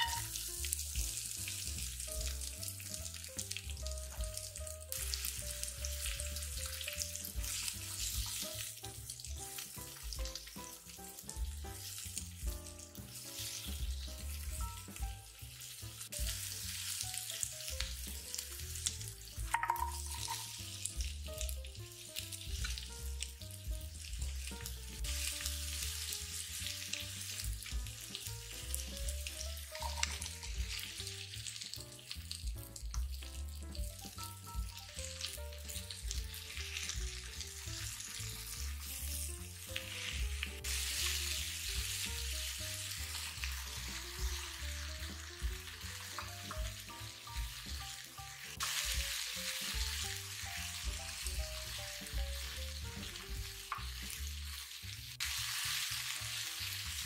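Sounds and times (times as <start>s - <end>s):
background music: 0.0s - 57.0s
vegetables sizzling in oil: 0.0s - 57.0s.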